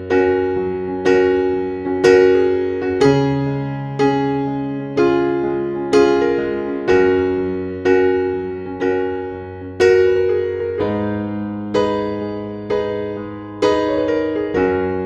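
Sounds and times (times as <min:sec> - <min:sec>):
slow electric piano chords: 0:00.0 - 0:15.0.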